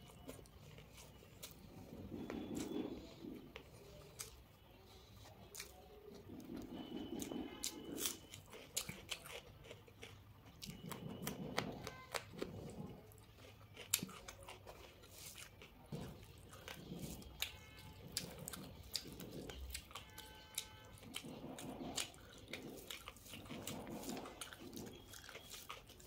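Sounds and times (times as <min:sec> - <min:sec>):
person chewing with wet mouth noises: 0:00.0 - 0:26.0.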